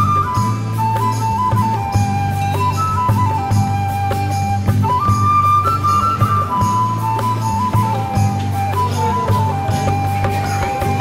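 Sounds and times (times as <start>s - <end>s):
flute holding long notes: 0.0s - 11.0s
low accompaniment with soft beats: 0.0s - 11.0s.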